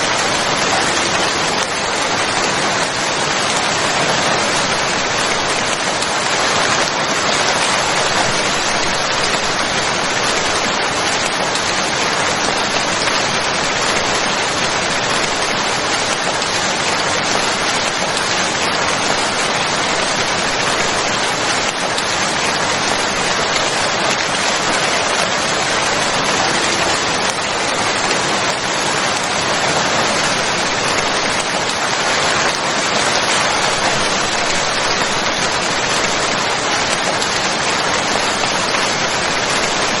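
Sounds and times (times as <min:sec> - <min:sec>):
rain pattering on surfaces: 0:00.0 - 0:40.0.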